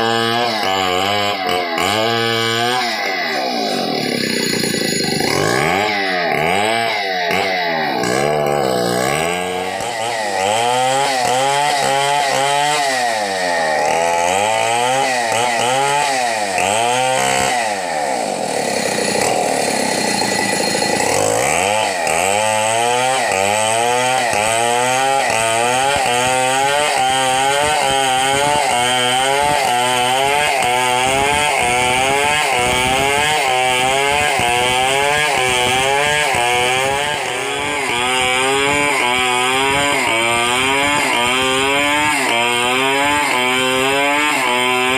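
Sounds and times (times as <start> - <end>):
chainsaw cutting through log: 0.0 - 44.9.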